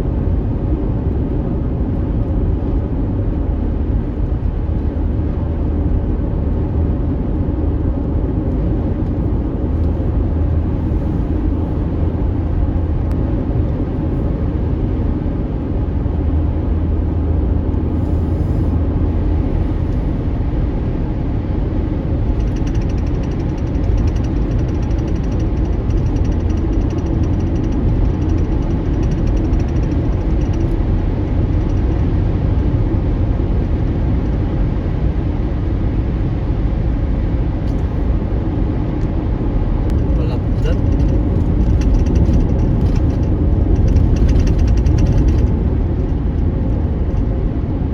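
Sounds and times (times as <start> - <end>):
car driving on gravel road: 0.1 - 16.4, 17.0 - 47.9.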